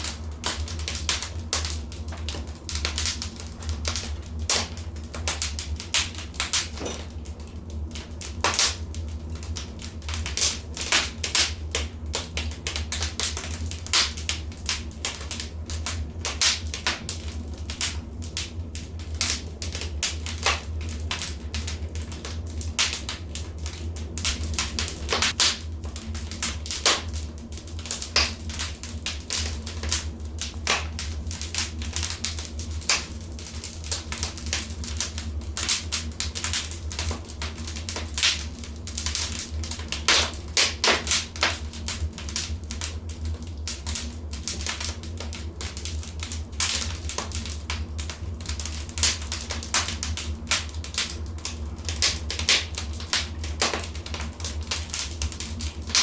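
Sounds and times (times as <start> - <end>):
low rumble of fire: 0.0 - 56.0
wood fire crackling: 0.0 - 56.0.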